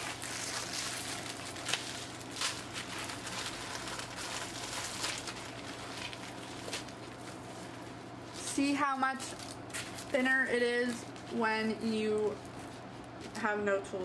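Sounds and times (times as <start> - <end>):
plastic film and paper crinkling: 0.0 - 13.5.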